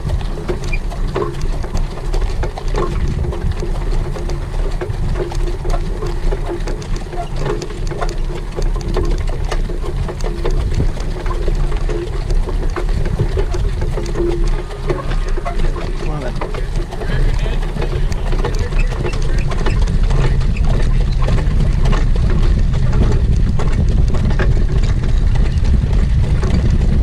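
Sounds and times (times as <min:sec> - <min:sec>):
clicks and knocks: 0:00.0 - 0:26.6
wind buffeting microphone: 0:00.0 - 0:27.0.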